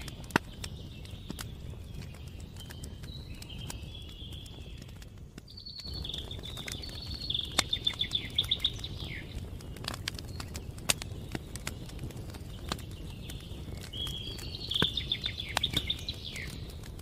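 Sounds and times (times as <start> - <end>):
campfire crackling pops: 0.0 - 17.0
small birds singing: 0.0 - 17.0.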